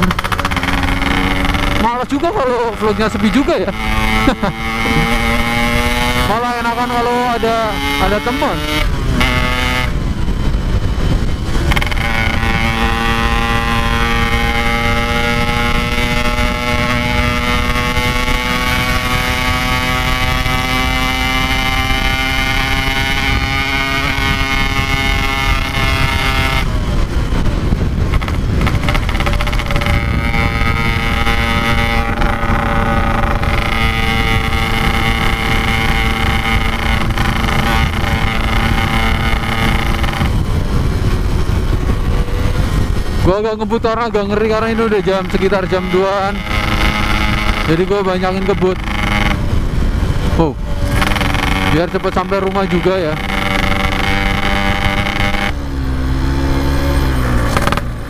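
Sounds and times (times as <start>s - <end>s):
low rush: 0.0s - 18.7s, 22.0s - 54.0s
motorcycle engine: 0.0s - 58.0s.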